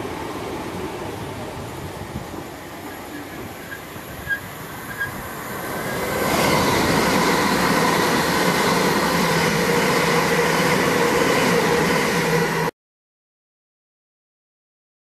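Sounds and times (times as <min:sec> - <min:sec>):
electric train wheel and motor noise: 0:00.0 - 0:12.7
train whine: 0:00.0 - 0:12.7.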